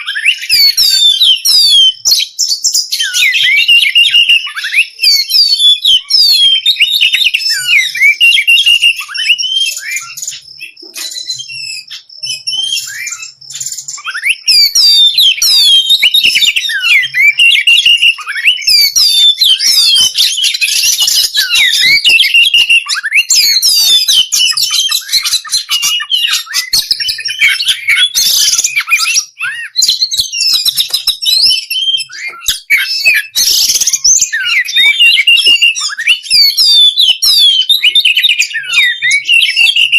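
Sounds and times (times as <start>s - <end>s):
songbirds chattering and trilling: 0.0s - 39.9s.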